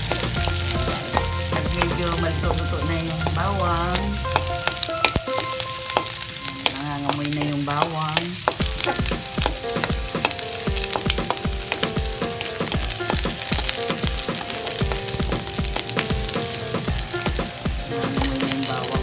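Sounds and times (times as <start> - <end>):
garlic and onion sizzling in oil: 0.0 - 19.0.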